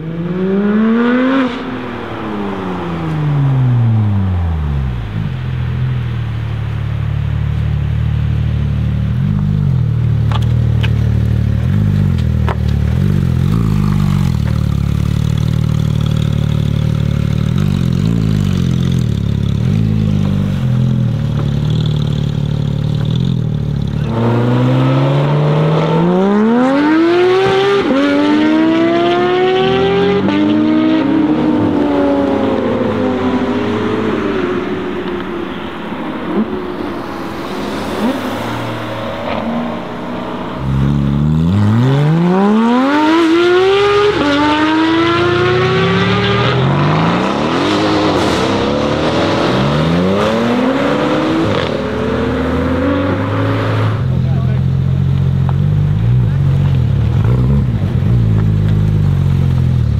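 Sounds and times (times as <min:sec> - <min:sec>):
sports car engine revving: 0:07.6 - 0:59.9.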